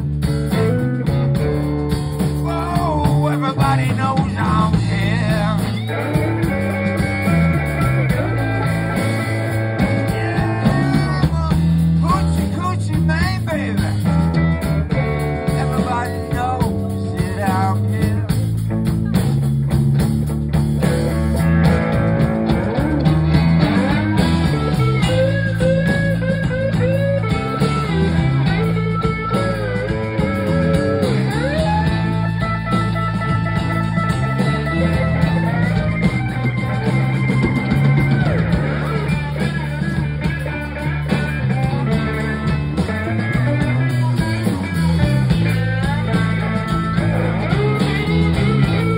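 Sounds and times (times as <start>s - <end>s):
blues band playing: 0.0s - 48.9s
electric guitar lead: 0.0s - 48.9s.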